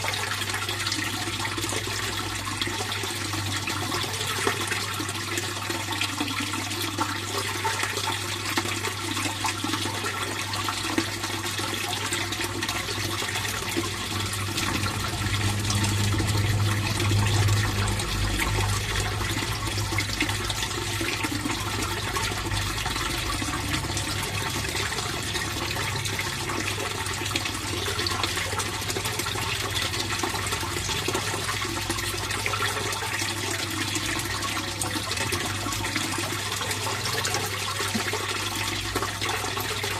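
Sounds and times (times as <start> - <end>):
water splashing in pond: 0.0 - 39.9.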